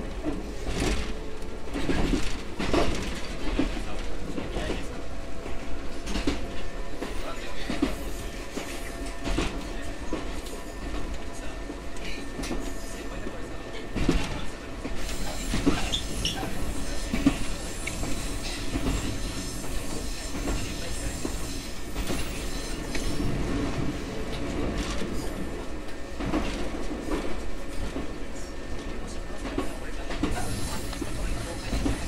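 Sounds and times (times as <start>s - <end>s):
wheels rumbling on rail: 0.0s - 32.0s.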